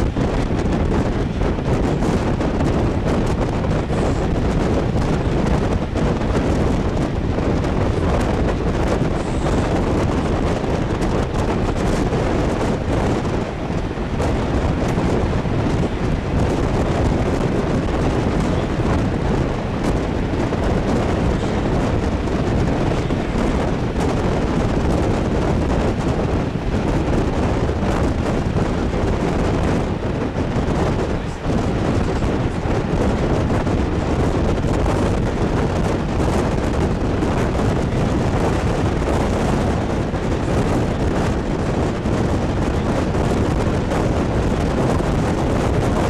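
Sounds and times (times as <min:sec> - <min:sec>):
train coach rumbling on track: 0:00.0 - 0:46.0
wind buffeting microphone: 0:00.0 - 0:46.0.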